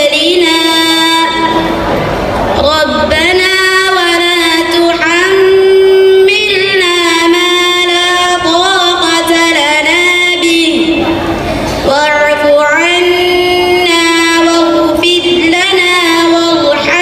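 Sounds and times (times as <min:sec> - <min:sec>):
girl chanting recitation: 0:00.0 - 0:01.7, 0:02.6 - 0:11.1, 0:11.8 - 0:17.0.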